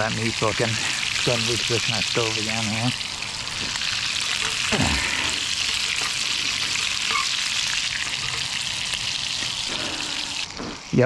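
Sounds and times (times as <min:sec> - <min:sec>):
fish sizzling in a frying pan: 0:00.0 - 0:11.0.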